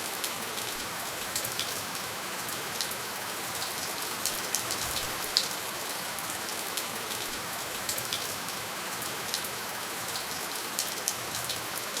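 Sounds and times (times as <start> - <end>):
steady rainfall hiss: 0.0 - 12.0.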